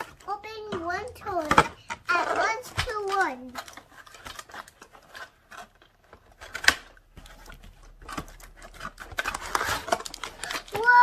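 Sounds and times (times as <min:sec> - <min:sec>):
plastic packaging clicks and scrapes: 0:00.0 - 0:11.0
plastic rustling: 0:00.0 - 0:11.0
plastic snapping: 0:00.0 - 0:11.0.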